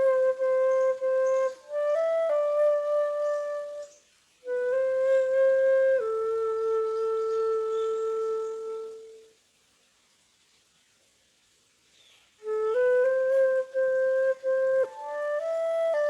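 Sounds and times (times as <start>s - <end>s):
flute playing slow melody: 0.0s - 9.4s, 12.4s - 16.0s.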